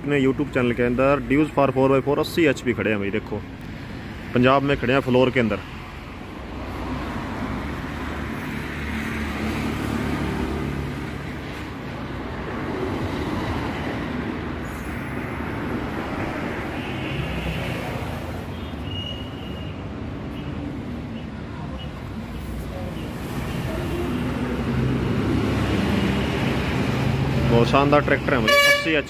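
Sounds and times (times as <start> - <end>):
vehicles passing: 0.0 - 29.0.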